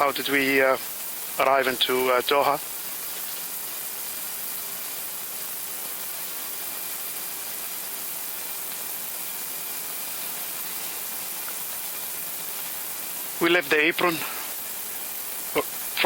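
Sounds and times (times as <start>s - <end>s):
air conditioning hiss: 0.0s - 16.0s.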